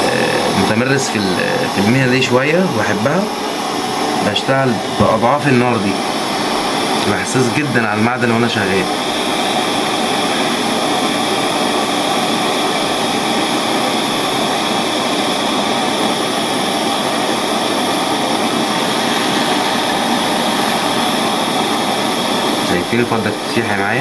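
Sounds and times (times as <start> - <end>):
torch flame hissing: 0.0 - 24.0.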